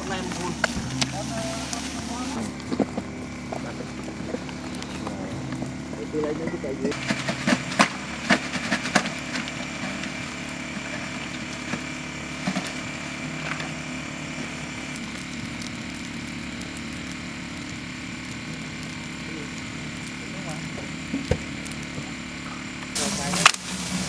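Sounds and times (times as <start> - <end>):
generator humming: 0.0 - 24.0.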